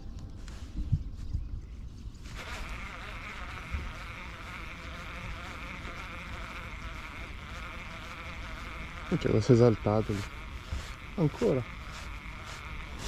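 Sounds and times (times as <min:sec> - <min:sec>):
fishing reel whirring: 0:02.3 - 0:13.0.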